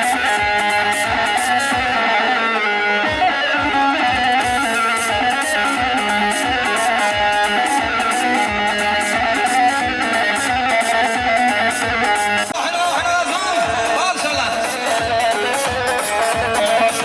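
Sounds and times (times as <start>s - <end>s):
repeating drum beat: 0.0s - 2.4s, 3.0s - 17.0s
plucked string melody: 0.0s - 17.0s.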